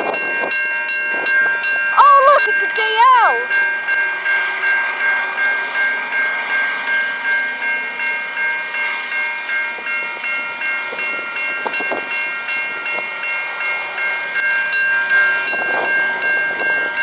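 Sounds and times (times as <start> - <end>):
electronic level crossing bells: 0.0 - 17.0.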